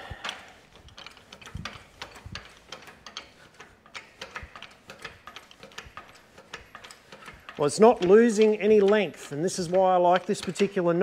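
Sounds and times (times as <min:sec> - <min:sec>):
jack clicking and ticking: 0:00.0 - 0:11.0.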